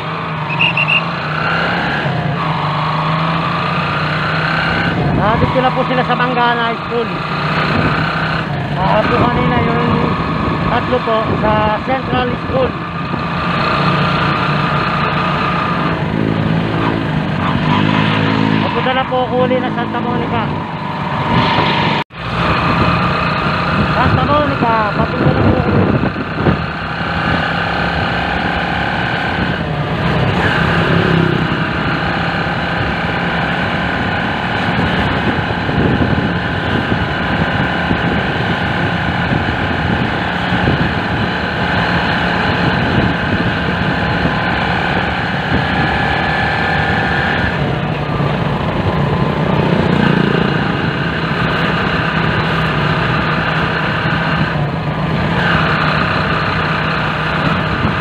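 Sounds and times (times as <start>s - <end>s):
motorcycle engine running: 0.0s - 58.0s
road rumble: 0.0s - 58.0s
wind: 0.0s - 58.0s.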